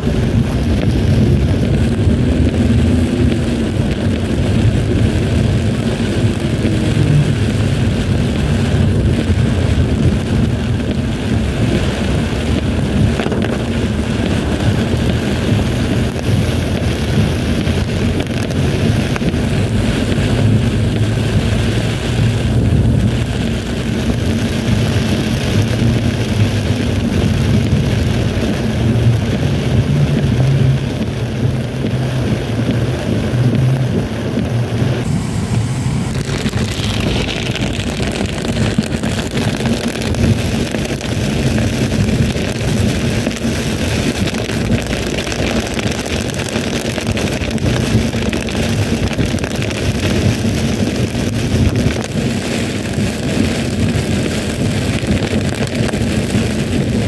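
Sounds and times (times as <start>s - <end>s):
car engine and tyres on wet road: 0.0s - 57.0s
rain hissing on car: 0.0s - 57.0s.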